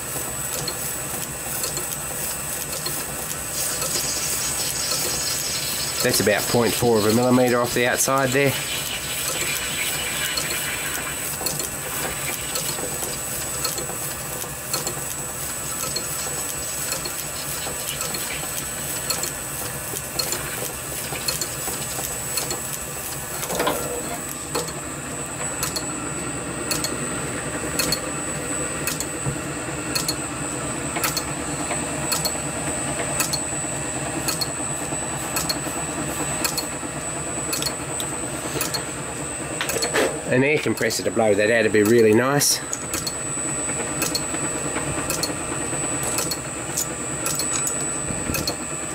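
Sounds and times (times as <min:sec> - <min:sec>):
metal cutting noise: 0:00.0 - 0:26.0, 0:29.9 - 0:48.9
lathe motor and gear whine: 0:00.0 - 0:48.9.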